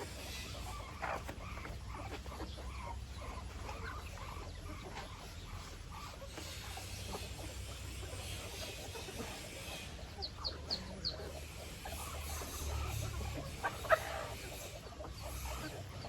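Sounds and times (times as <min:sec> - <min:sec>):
chicken squawk: 0:00.0 - 0:16.0
chickens clucking: 0:00.0 - 0:16.0
high chick peeps: 0:00.0 - 0:16.0.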